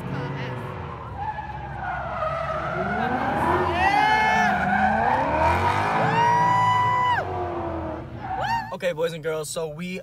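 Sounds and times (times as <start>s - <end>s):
car engine revving: 0.0s - 8.5s.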